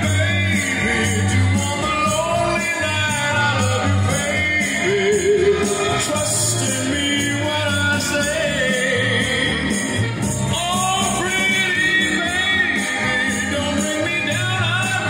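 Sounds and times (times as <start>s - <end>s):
pop song from vinyl record: 0.0s - 15.0s.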